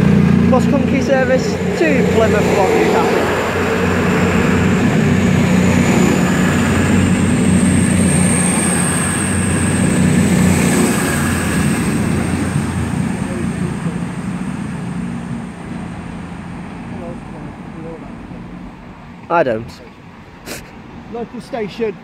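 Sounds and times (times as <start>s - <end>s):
diesel train engines running hard: 0.0s - 19.2s.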